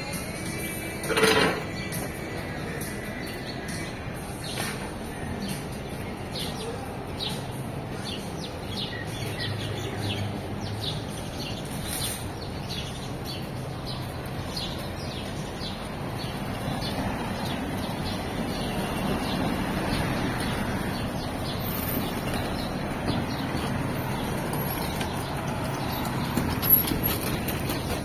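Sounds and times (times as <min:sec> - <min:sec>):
city traffic hum: 0:00.0 - 0:28.0
songbirds chirping: 0:00.0 - 0:28.0.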